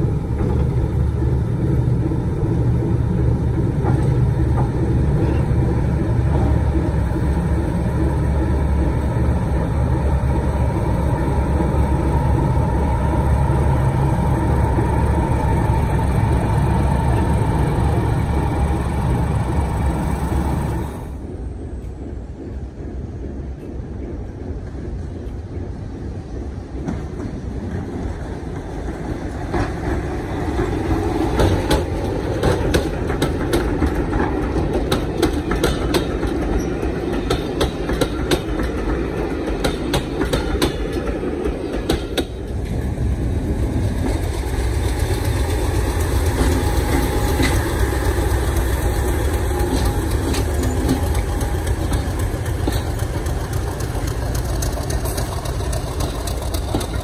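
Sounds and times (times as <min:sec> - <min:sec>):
diesel locomotive engine rumble: 0:00.0 - 0:57.0
train wheels clicking over rail joints: 0:00.0 - 0:57.0.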